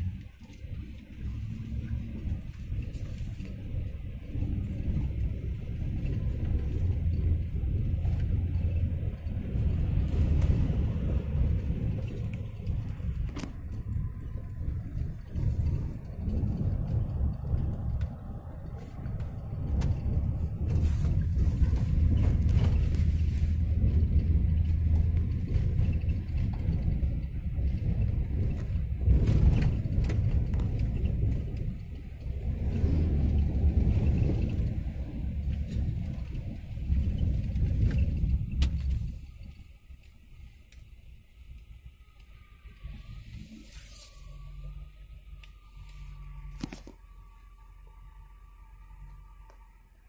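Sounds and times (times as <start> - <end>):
road and wind noise inside vehicle: 0.0 - 50.0.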